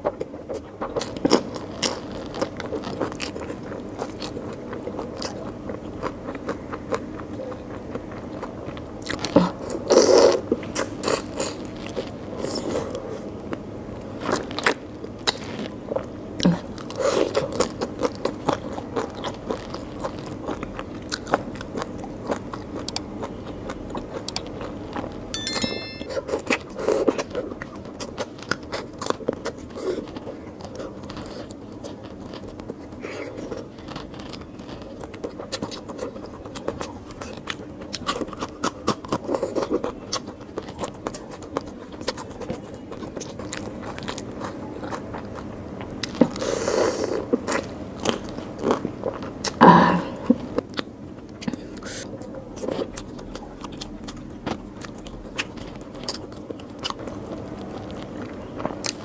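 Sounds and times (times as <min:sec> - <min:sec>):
chewing and crunching food: 0:00.0 - 0:25.3, 0:26.1 - 0:59.0.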